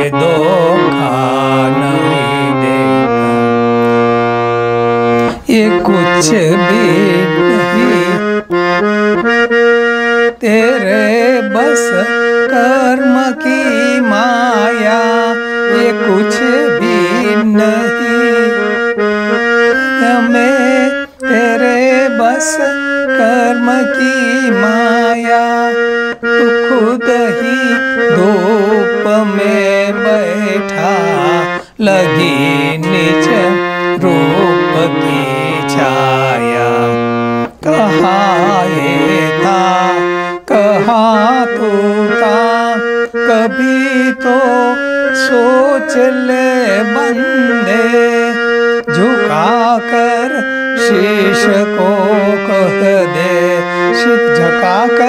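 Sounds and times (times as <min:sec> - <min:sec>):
harmonium melody: 0:00.0 - 0:55.0.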